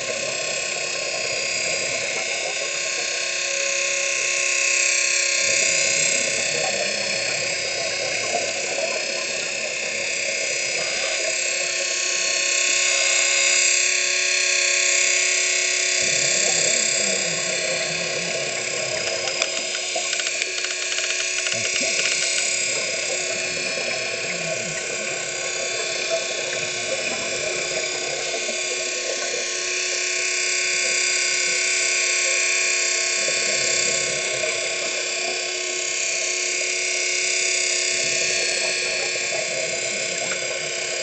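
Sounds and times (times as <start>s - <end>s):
drilling rig machinery whining: 0.0s - 41.0s.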